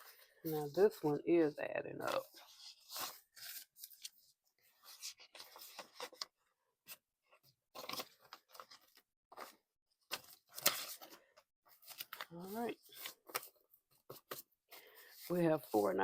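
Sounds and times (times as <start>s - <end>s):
paper money rustling and crinkling: 2.1s - 16.0s.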